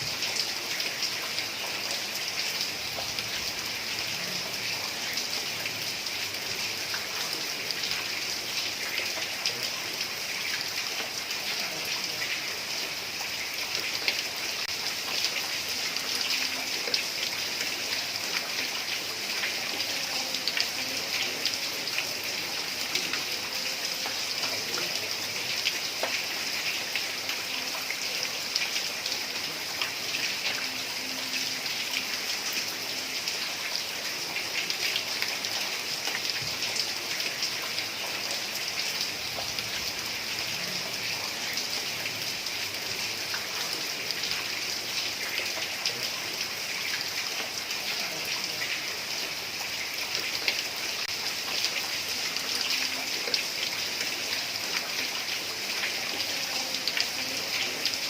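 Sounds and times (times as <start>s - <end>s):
heavy rain on a tiled roof: 0.0s - 58.0s.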